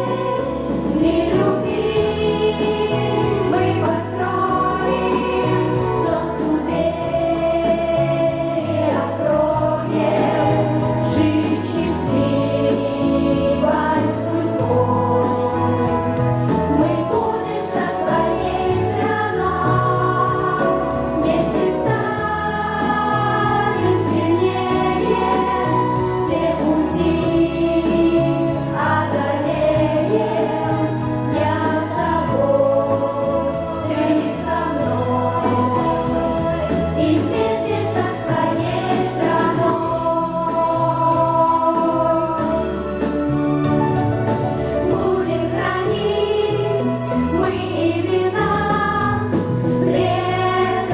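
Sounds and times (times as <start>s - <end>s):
pop ensemble singing: 0.0s - 50.9s.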